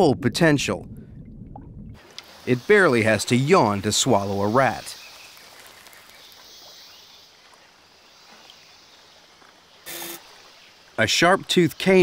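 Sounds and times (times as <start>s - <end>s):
faint outdoor hiss: 2.0s - 12.0s.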